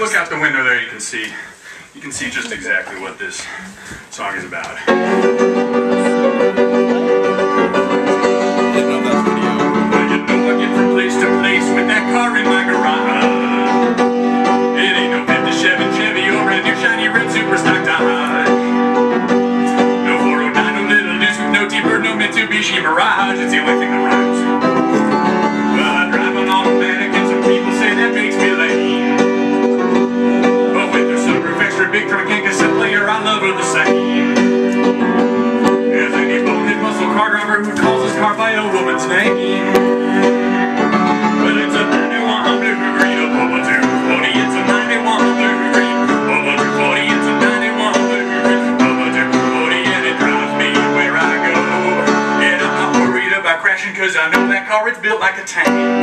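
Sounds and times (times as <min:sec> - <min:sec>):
piano chords played loudly: 0:04.2 - 0:56.0.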